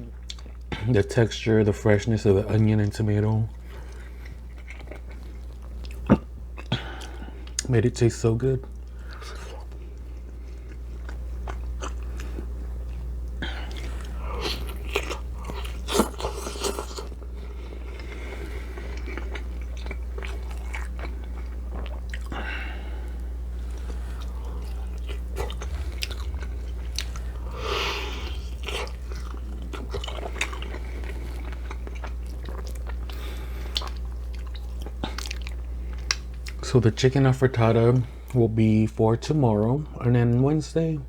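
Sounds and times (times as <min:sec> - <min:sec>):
person chewing food: 0:00.0 - 0:00.8, 0:02.5 - 0:07.7, 0:08.7 - 0:36.7
steady low hum: 0:00.0 - 0:41.0.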